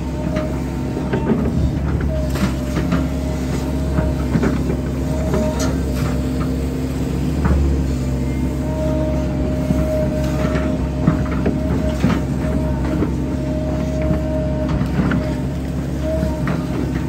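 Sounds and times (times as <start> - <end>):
excavator diesel hum: 0.0 - 17.0
hydraulic whine: 0.0 - 17.0.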